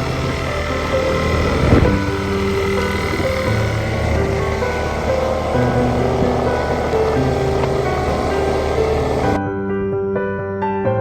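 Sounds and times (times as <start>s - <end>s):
low hum: 0.0s - 9.4s
steady noise: 0.0s - 9.4s
music with slow held notes: 0.0s - 11.0s.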